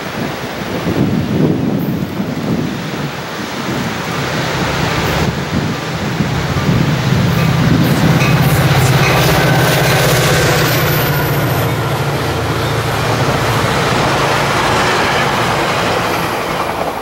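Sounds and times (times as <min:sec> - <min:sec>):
train wheels rumbling on rails: 0:00.1 - 0:17.0
diesel locomotive engine drone: 0:01.2 - 0:17.0.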